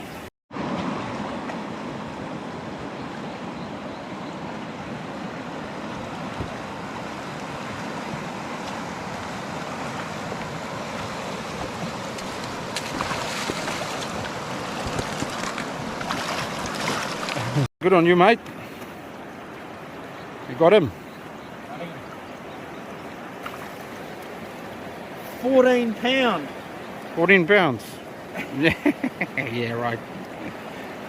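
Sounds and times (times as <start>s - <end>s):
river rushing: 0.0s - 31.0s.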